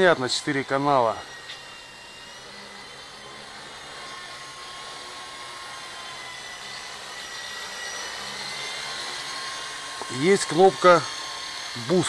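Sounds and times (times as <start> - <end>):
toy helicopter rotor whine: 0.0 - 12.0.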